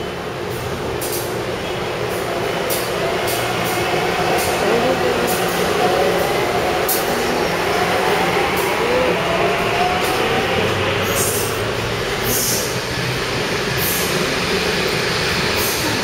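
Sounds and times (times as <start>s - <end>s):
train rolling noise: 0.0s - 16.0s.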